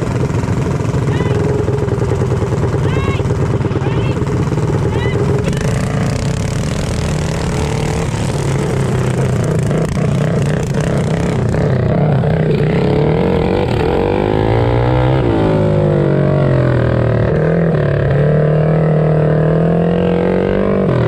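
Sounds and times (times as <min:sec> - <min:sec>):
mini bike engines revving: 0:00.0 - 0:21.0.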